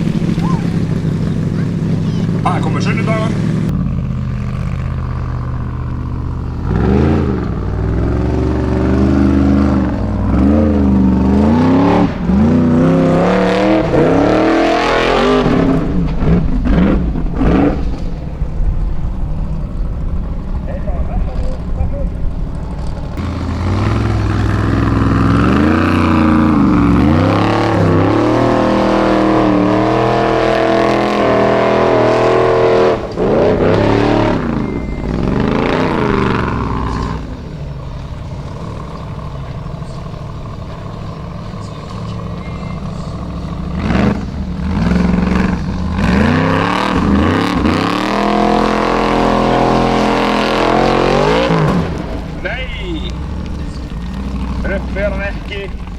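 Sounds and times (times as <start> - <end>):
buggy engine revving: 0.0 - 55.9.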